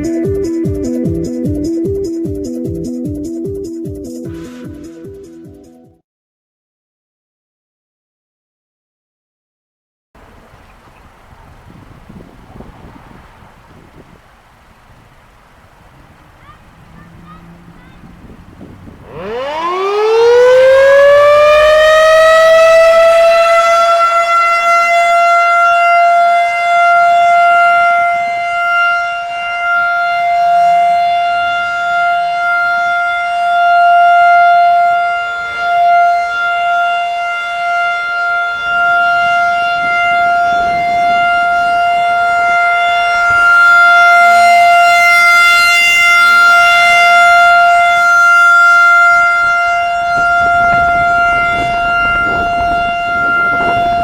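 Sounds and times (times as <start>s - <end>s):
outdoor warning siren: 0.0s - 4.8s, 10.2s - 54.0s.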